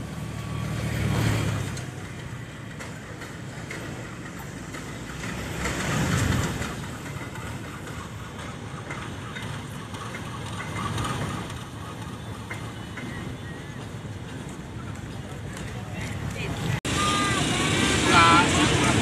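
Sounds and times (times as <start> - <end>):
diesel locomotive engine running: 0.0 - 19.0
train wheels rolling on rails: 0.0 - 19.0.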